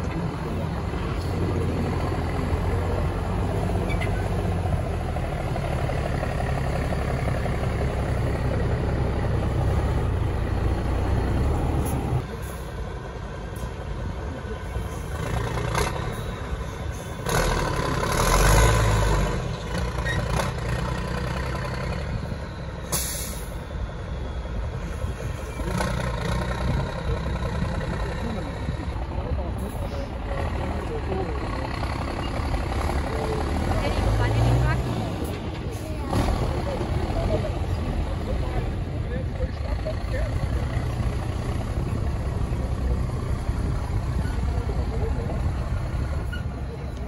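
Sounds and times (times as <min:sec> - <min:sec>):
truck diesel engine working hard: 0:00.0 - 0:47.0.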